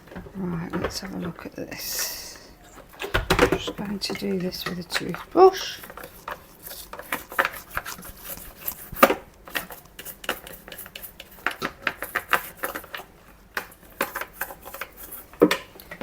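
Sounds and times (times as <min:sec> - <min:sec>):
toothbrush scrubbing plastic: 0:00.0 - 0:16.0.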